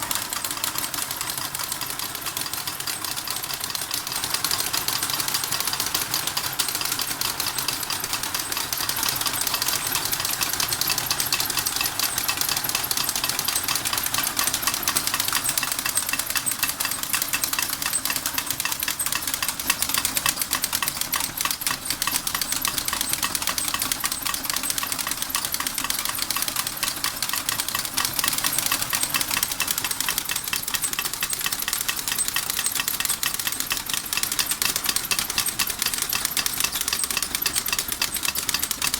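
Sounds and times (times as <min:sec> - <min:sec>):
steam engine clattering: 0:00.0 - 0:38.9.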